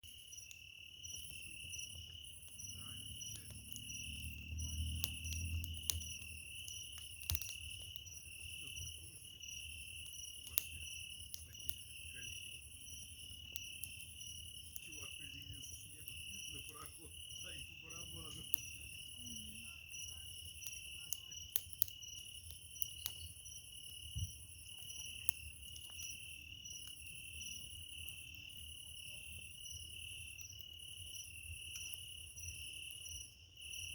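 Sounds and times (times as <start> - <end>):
crickets chirping: 0.0 - 33.9
firewood crackling and popping: 0.0 - 33.9.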